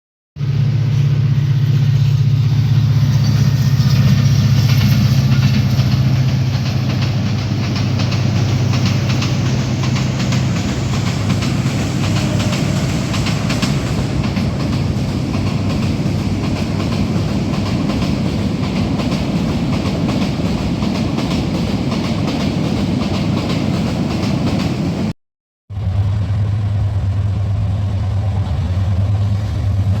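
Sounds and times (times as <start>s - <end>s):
locomotive engine drone: 0.4s - 25.1s, 25.7s - 30.0s
train wheels clattering on rails: 0.6s - 25.1s.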